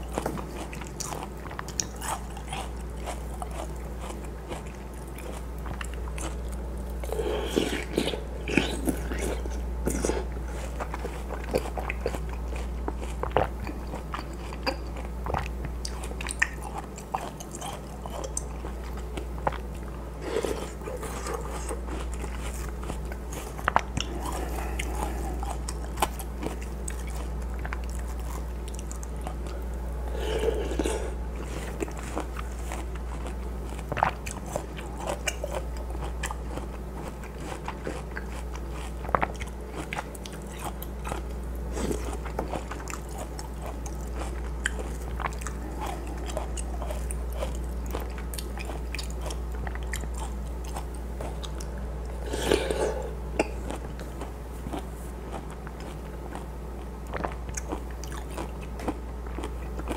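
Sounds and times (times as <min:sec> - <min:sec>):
chewing watermelon crunches: 0:00.0 - 0:59.9
steady low hum: 0:00.0 - 0:59.9.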